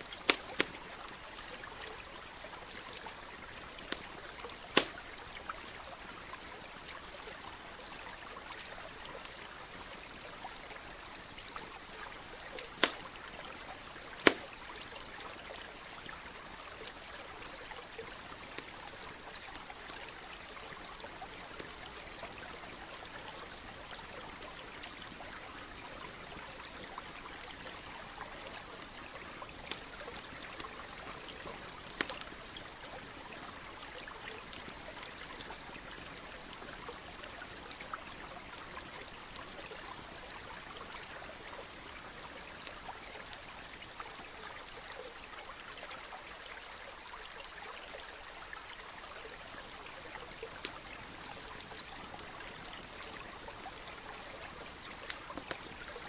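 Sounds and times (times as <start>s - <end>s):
campfire crackling and popping: 0.0s - 46.8s, 48.6s - 56.0s.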